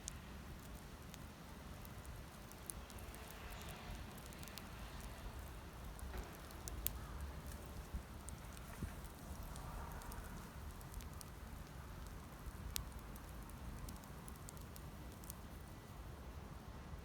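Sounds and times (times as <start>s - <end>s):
campfire crackling: 0.0s - 16.6s.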